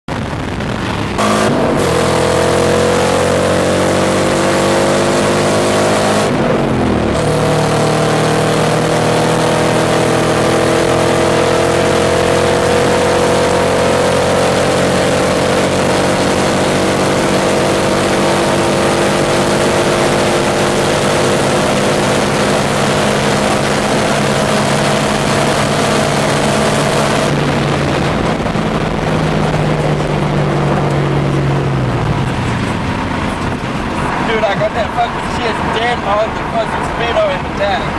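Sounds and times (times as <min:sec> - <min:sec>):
car engine at full throttle: 0:00.1 - 0:37.9.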